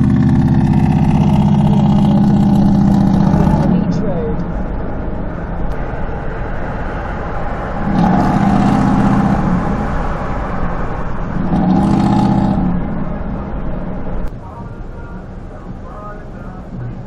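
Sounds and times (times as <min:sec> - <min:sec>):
car engine accelerating: 0:00.0 - 0:17.0
road noise inside car: 0:00.0 - 0:17.0.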